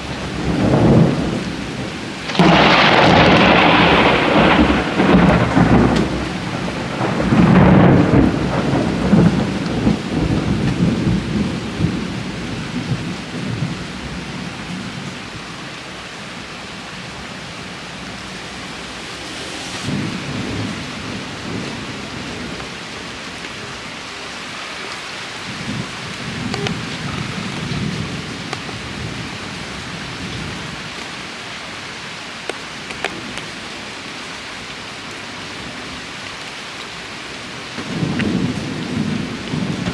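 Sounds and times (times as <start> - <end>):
thunder rumbling: 0.0 - 15.6, 16.4 - 30.9, 37.6 - 39.9
steady rainfall: 0.0 - 39.9.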